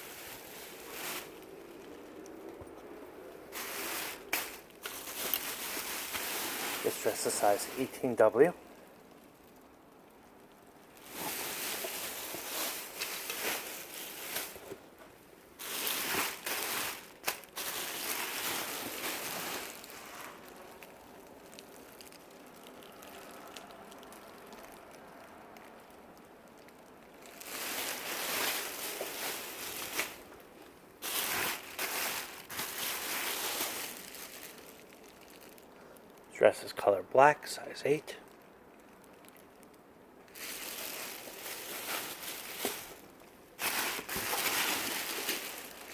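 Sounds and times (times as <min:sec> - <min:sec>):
dresses rustling and crinkling: 0:00.0 - 0:36.3, 0:37.9 - 0:45.9.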